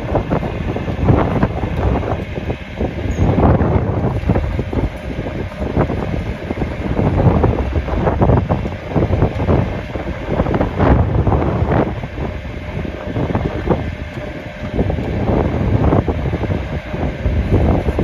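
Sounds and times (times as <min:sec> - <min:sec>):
heavy truck engine running: 0:00.0 - 0:18.0
wind buffeting microphone: 0:00.0 - 0:18.0.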